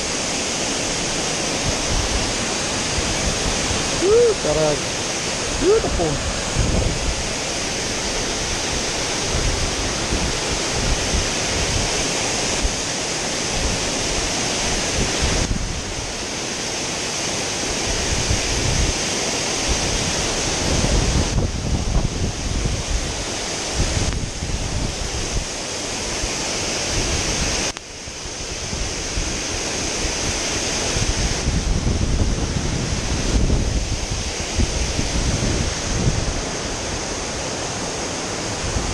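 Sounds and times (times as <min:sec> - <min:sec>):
wind buffeting microphone: 0:00.0 - 0:16.2, 0:17.8 - 0:19.0, 0:19.6 - 0:25.5, 0:28.3 - 0:38.9
waterfall rushing: 0:00.0 - 0:38.9.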